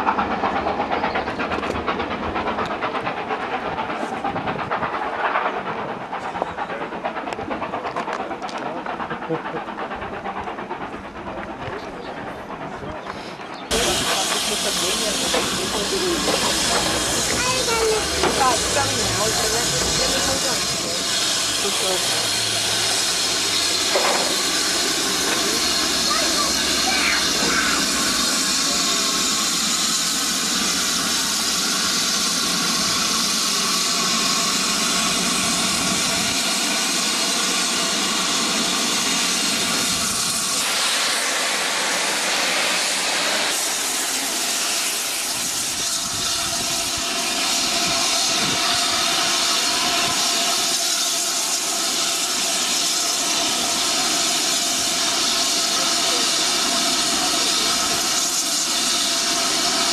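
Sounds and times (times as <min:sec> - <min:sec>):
loud rush of steam: 0:00.0 - 0:59.9
steam hissing: 0:00.0 - 0:59.9.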